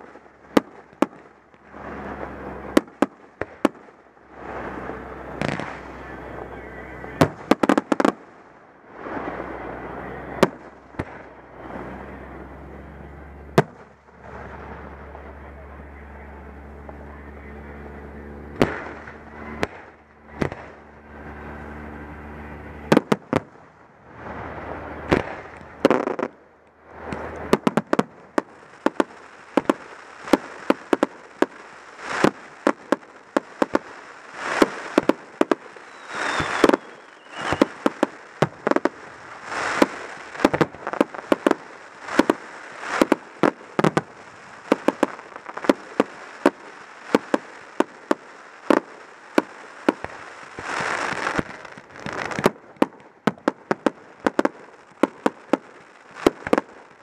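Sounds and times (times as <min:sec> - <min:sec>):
low steady hum: 0:00.0 - 0:07.5, 0:08.2 - 0:53.2
fireworks bangs and crackles: 0:00.0 - 0:57.0.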